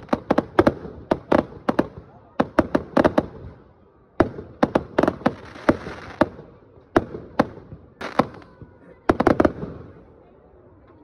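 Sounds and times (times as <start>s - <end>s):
fireworks bangs and cracks: 0.0s - 3.6s, 4.2s - 10.1s.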